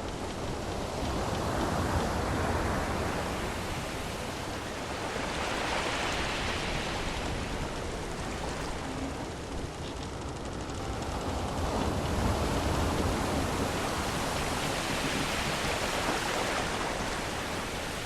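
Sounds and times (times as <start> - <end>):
sea waves washing: 0.0 - 18.0.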